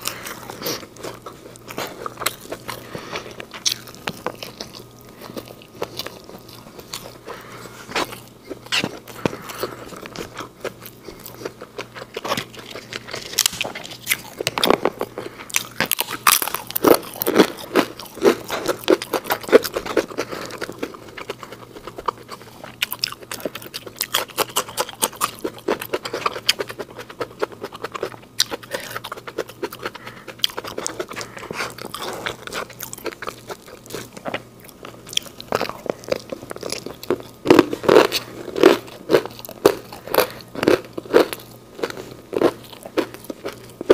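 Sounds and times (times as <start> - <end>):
crunchy biting and chewing: 0.0 - 43.9.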